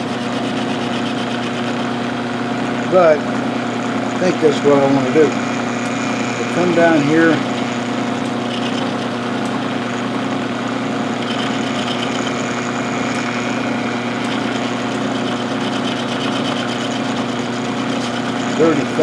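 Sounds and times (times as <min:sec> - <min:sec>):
milling machine humming: 0:00.0 - 0:19.0.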